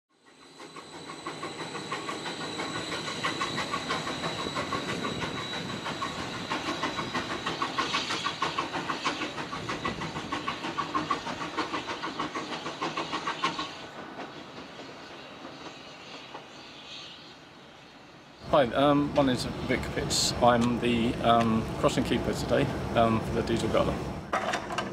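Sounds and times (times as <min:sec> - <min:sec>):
train wheels clicking over rail joints: 0:00.2 - 0:16.9, 0:18.6 - 0:24.9.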